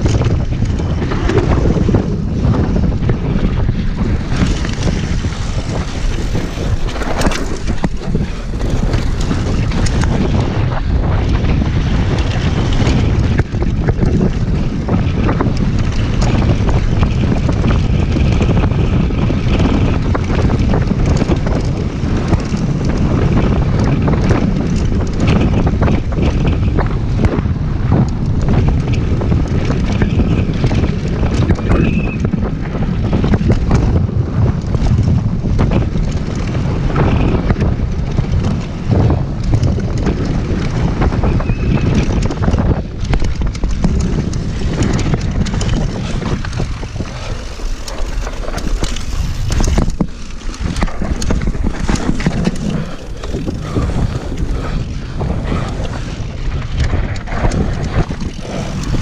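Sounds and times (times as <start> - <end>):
mountain bike rattling on gravel: 0.0 - 59.0
wind buffeting microphone: 0.0 - 59.0.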